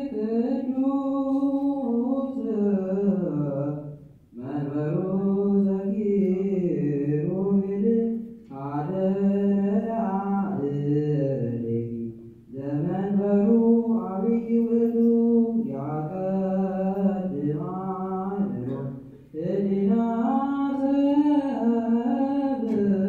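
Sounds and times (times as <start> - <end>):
liturgical chant: 0.0 - 23.0.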